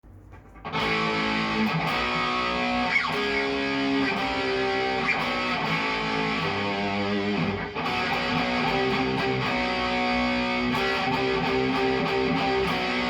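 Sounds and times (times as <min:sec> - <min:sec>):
guitar chords and notes: 0:00.6 - 0:13.0.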